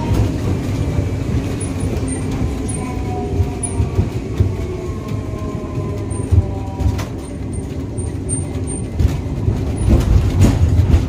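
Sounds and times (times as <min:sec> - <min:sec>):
tram rumbling on track: 0:00.0 - 0:11.0.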